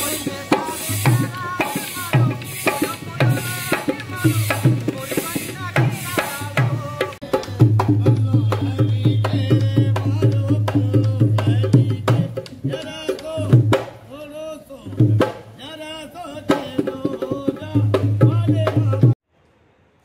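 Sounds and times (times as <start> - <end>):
hand drum rhythm: 0.0 - 14.0, 14.9 - 15.5, 16.5 - 19.2
person singing: 0.0 - 19.2.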